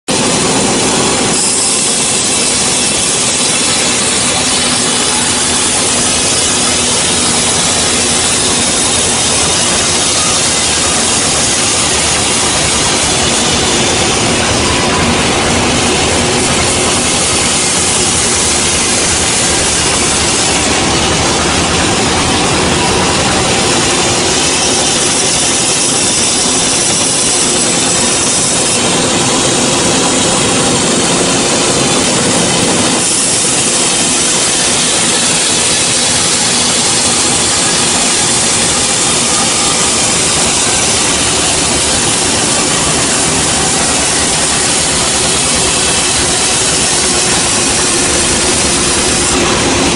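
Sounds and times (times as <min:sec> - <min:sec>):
bandsaw cutting log: 0:00.1 - 0:49.9.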